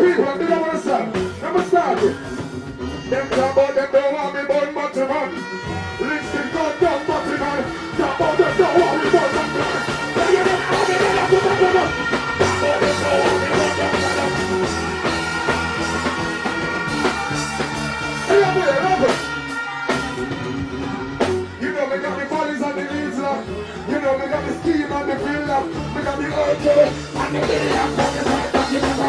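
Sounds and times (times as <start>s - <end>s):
reggae music over sound system: 0.0s - 29.0s
person singing: 2.8s - 29.0s.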